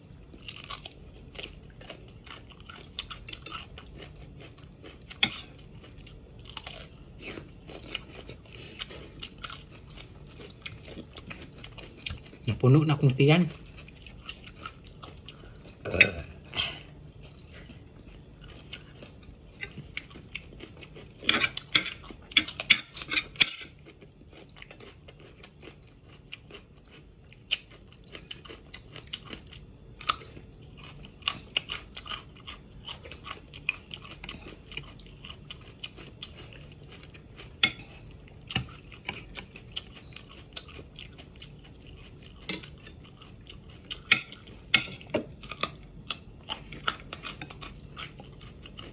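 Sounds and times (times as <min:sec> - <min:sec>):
crunching raw vegetables: 0:00.2 - 0:48.9.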